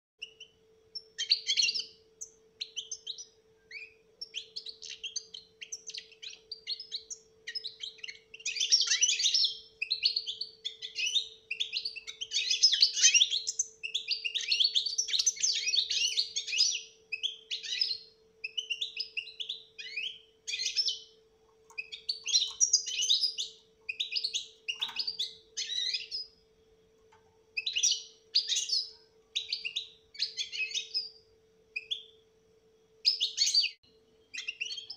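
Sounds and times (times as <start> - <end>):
goldfinch singing: 0.2 - 26.4, 27.6 - 31.2, 33.0 - 34.9.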